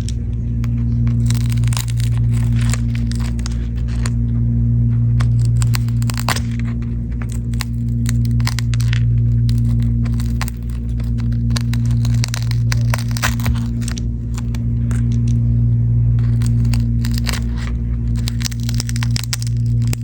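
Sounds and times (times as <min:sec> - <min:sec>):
cracking glass clicks: 0:00.0 - 0:04.2, 0:05.1 - 0:15.4, 0:16.2 - 0:20.0
steady electrical hum: 0:00.0 - 0:20.0.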